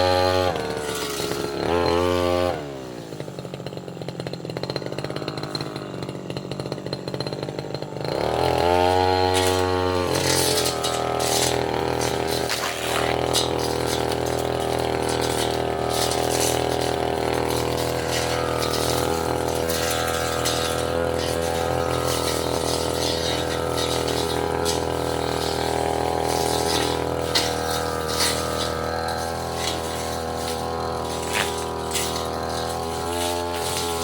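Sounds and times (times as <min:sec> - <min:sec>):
cutting head striking saplings: 0:00.0 - 0:02.9, 0:08.1 - 0:34.0
brush cutter engine running: 0:00.0 - 0:34.0.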